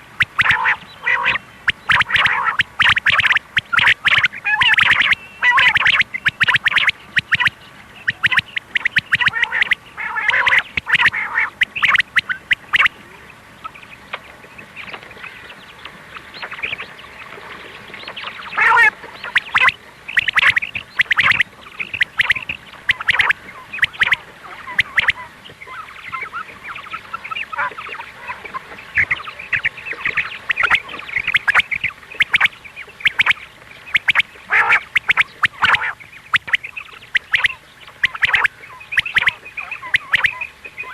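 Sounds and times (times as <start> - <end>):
quail calling: 0.0 - 14.0, 18.1 - 40.9.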